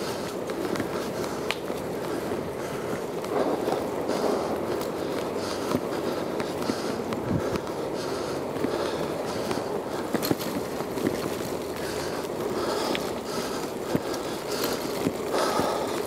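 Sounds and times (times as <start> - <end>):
bicycle tyre rumble: 0.0 - 16.0
person breathing: 0.0 - 16.0.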